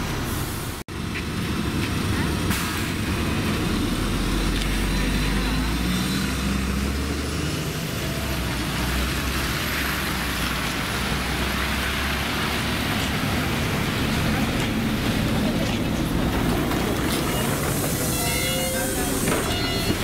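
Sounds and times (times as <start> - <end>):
bus engines idling: 0.0 - 20.0
street traffic noise: 0.0 - 20.0.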